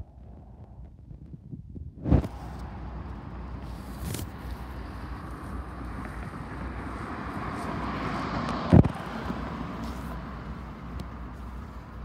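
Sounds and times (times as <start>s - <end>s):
road vehicle passing: 2.2s - 12.0s.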